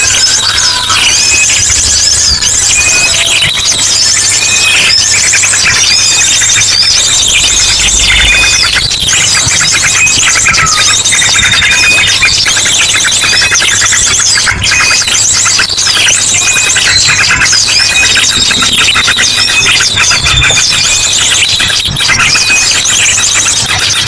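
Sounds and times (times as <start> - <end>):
drongo calls: 0.0 - 24.0
small birds chirping and trilling: 0.0 - 24.0.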